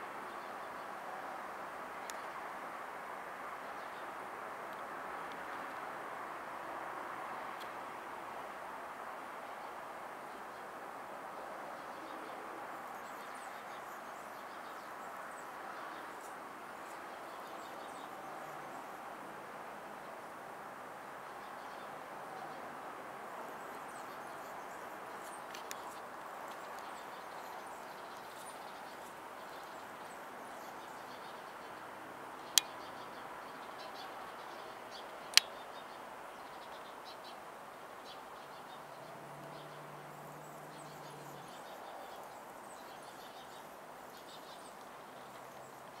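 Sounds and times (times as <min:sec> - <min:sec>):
steady outdoor hiss: 0:00.0 - 0:46.0.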